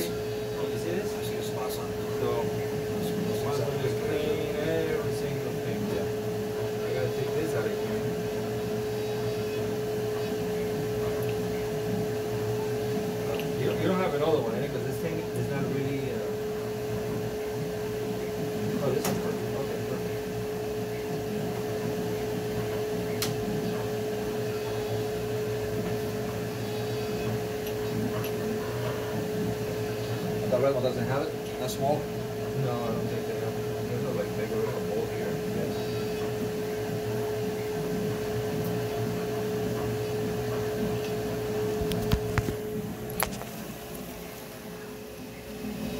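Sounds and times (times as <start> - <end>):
steady machine hum: 0.0 - 45.9.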